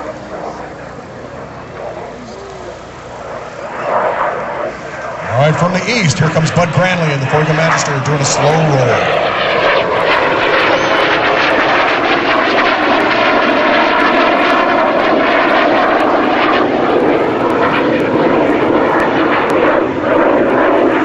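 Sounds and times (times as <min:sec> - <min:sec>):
jet plane flying past: 0:00.0 - 0:21.0.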